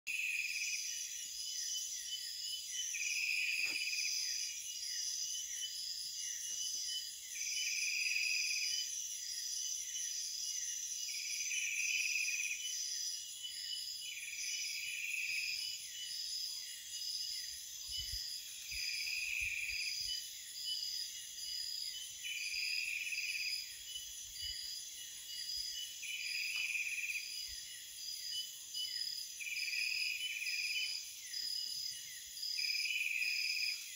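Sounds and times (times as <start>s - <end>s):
shrill insect trill: 0.1s - 33.9s.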